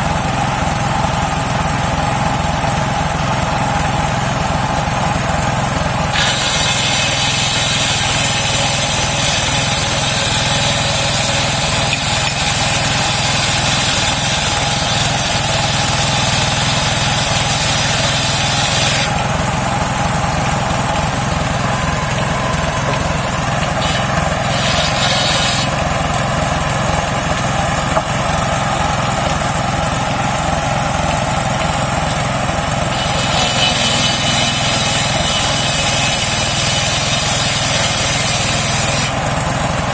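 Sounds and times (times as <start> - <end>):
engine drone: 0.0 - 39.9
saw blade cutting log: 5.2 - 39.9.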